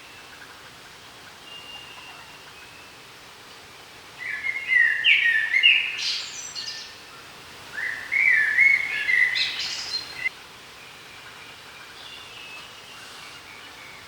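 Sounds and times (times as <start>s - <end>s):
songbird singing: 1.3s - 14.0s.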